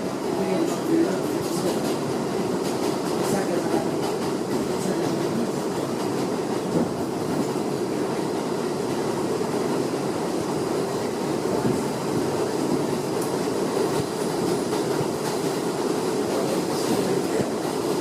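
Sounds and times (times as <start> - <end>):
subway wheels rumbling on rails: 0.0 - 18.0.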